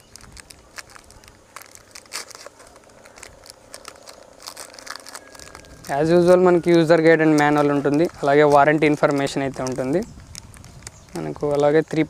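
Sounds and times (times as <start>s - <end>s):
cables rustling: 0.0s - 12.0s
plastic bag crinkling: 0.0s - 12.0s.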